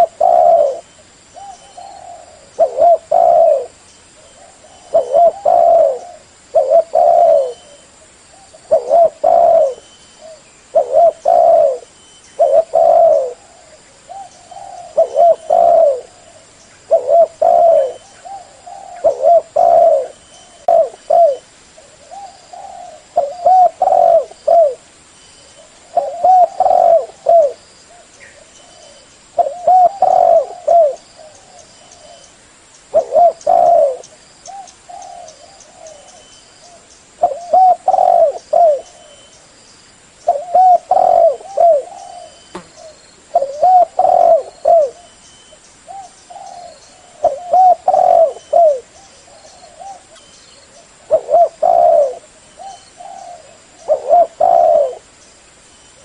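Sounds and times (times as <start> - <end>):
dove cooing: 0.0 - 24.9, 25.6 - 32.3, 32.9 - 39.3, 40.2 - 45.2, 45.9 - 55.1.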